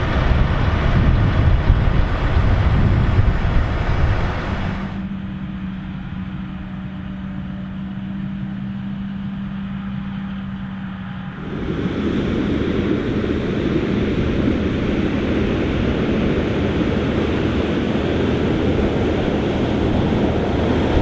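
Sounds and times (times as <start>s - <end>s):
tractor engines running: 0.0s - 21.0s.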